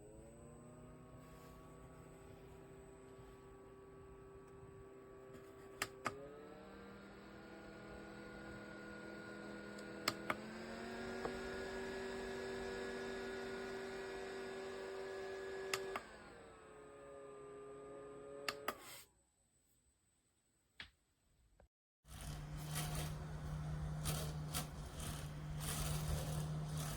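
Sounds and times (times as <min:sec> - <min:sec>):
desk fan whining: 0:00.2 - 0:18.7, 0:22.1 - 0:26.9.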